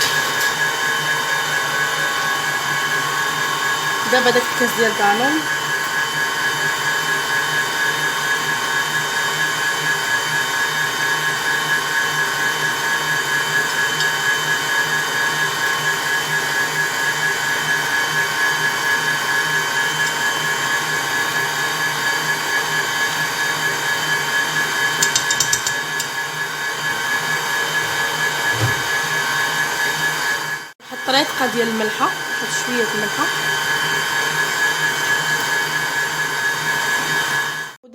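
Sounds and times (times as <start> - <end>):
electric mixer beating batter: 0.0 - 37.9.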